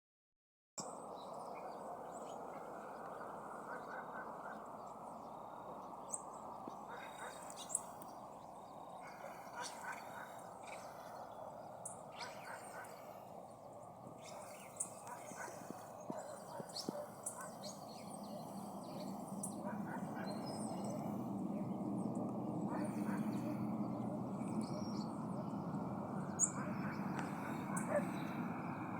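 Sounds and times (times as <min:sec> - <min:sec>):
faint bird chirps: 0:00.8 - 0:28.9
steady outdoor rushing noise: 0:01.1 - 0:28.9.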